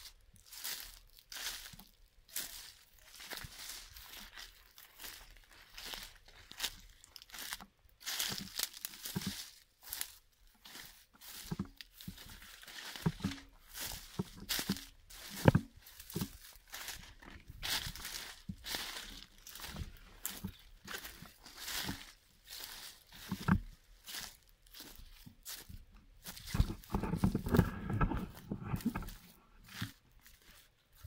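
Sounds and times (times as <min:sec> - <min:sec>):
leaves crunching and rustling: 0:00.0 - 0:31.0.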